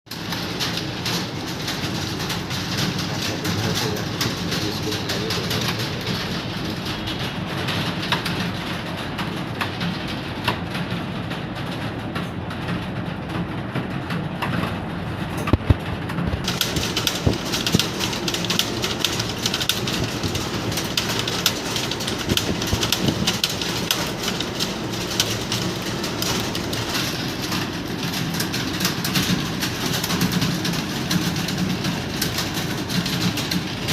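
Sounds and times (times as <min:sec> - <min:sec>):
rapid keyboard typing: 0:00.1 - 0:33.9.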